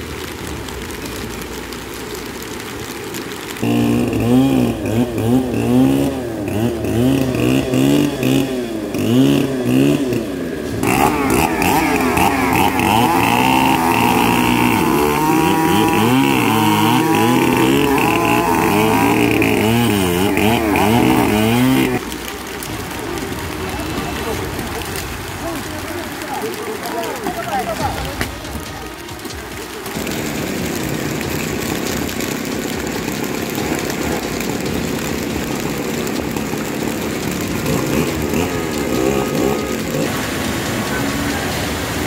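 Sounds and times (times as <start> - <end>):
rain hissing: 0.0 - 42.0
small petrol engine revving: 3.5 - 42.0.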